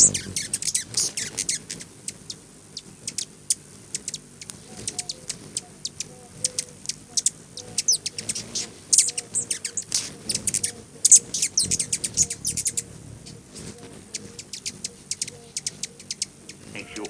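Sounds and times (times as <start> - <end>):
hummingbird chip calls: 0.0 - 17.0.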